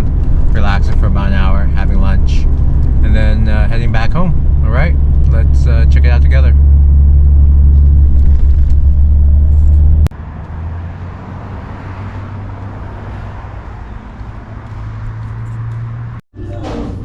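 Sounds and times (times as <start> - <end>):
car interior hum with drone: 0.0 - 16.2
low road rumble: 0.0 - 17.0.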